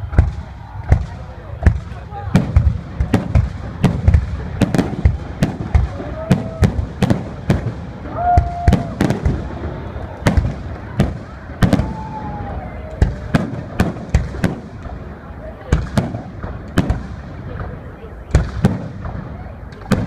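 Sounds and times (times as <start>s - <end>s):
deep fireworks booms: 0.0s - 20.0s
fireworks bangs: 0.0s - 20.0s.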